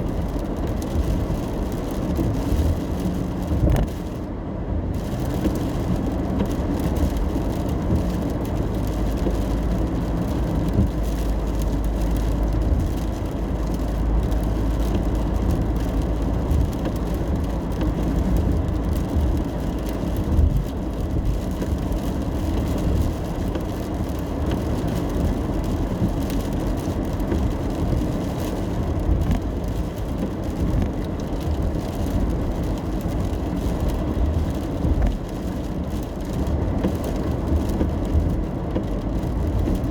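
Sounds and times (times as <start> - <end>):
car cabin road noise: 0.0 - 39.9
faint rain on car: 0.0 - 39.9
tyres on wet pavement: 0.0 - 39.9.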